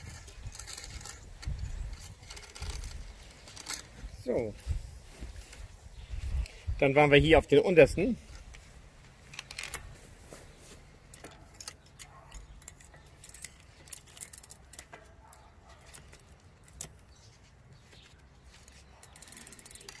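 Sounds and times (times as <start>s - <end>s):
bike chain clinking and rattling: 0.0s - 6.7s, 9.2s - 10.1s, 11.0s - 20.0s.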